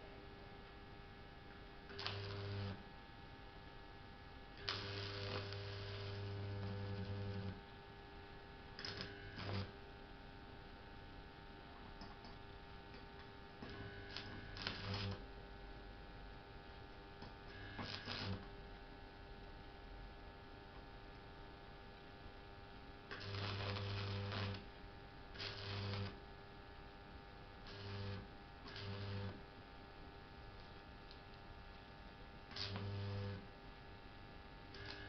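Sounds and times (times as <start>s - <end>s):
mains hum: 0.0s - 35.0s
arc welder crackling and buzzing: 1.9s - 2.9s, 4.4s - 10.3s, 10.9s - 35.0s.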